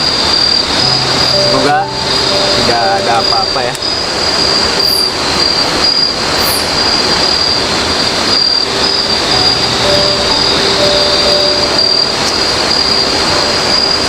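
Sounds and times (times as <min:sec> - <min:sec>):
insects whining and buzzing: 0:00.0 - 0:14.0
short lower insect calls: 0:00.0 - 0:14.0.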